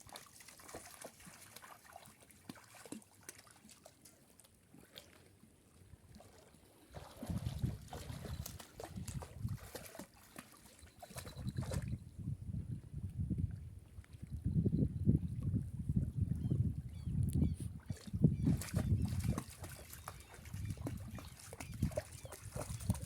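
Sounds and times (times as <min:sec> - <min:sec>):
water trickling and lapping: 0:00.0 - 0:23.0.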